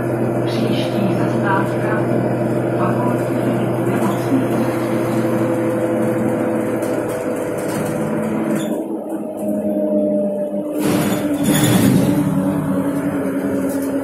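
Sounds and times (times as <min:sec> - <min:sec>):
bus diesel engine droning: 0:00.0 - 0:14.0
road and tyre noise: 0:00.0 - 0:14.0.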